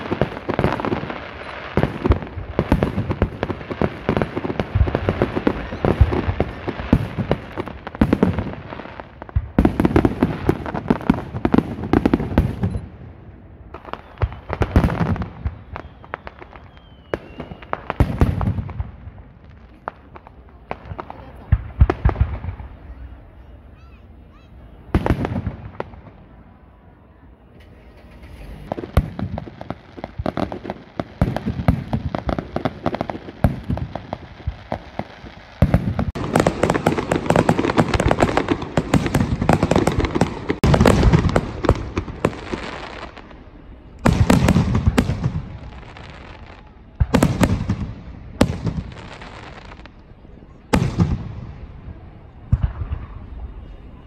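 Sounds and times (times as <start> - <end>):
firework shells bursting and crackling: 0.0 - 12.9, 13.7 - 22.8, 28.0 - 50.0.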